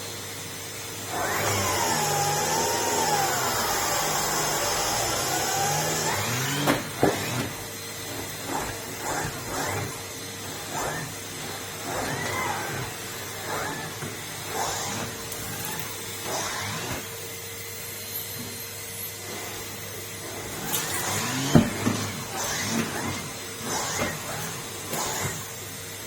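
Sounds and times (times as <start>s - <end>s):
vacuum cleaner humming: 0.0s - 26.0s.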